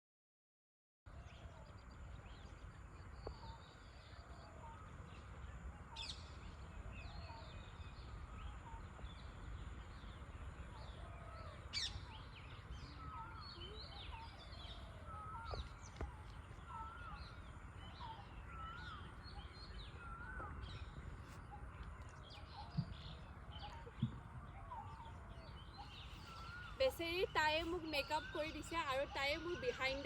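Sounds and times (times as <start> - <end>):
birds whistling and chirping: 5.9 - 30.0.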